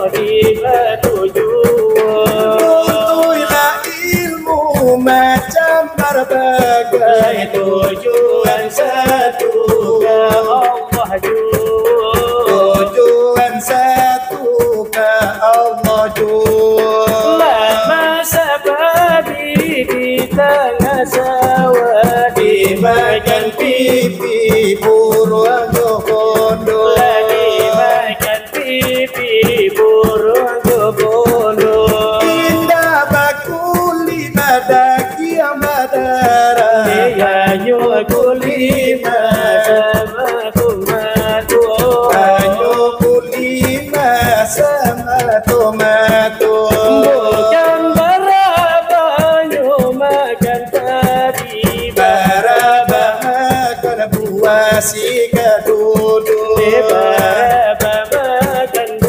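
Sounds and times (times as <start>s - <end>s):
men singing a chant: 0.0s - 59.0s.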